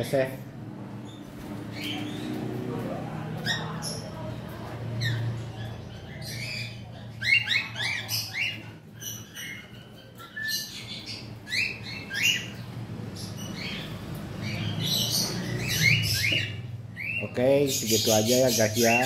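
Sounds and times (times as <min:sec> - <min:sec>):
cockatiels chirping: 0:01.0 - 0:02.5, 0:03.4 - 0:19.0.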